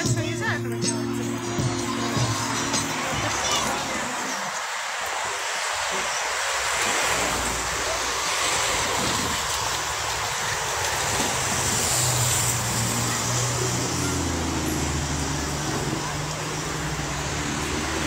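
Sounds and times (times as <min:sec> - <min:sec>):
motor vehicle engine hum: 0:00.0 - 0:18.0
street traffic noise: 0:00.0 - 0:18.0.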